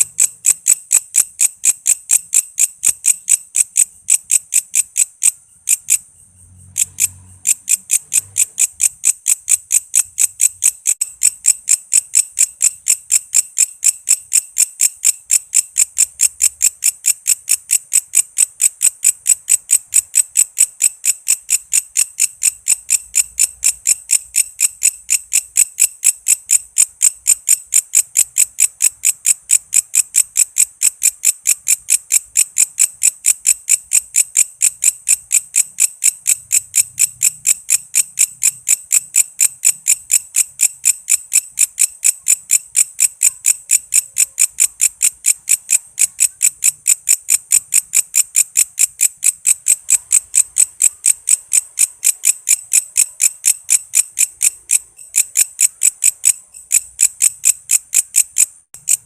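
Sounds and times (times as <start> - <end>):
insect high-pitched chirps: 0.0 - 59.0.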